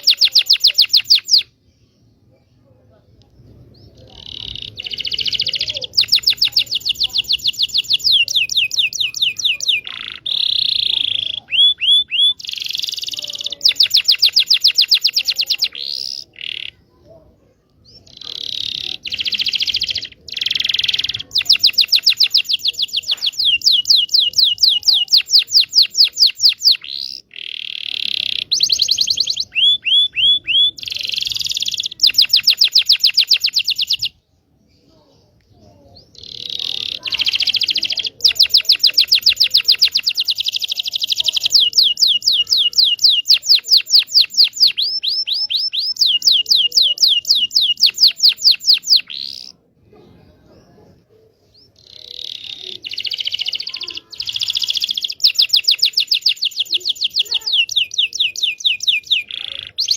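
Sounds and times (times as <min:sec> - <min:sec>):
canary singing trills: 0:00.0 - 0:02.1, 0:03.4 - 0:59.9.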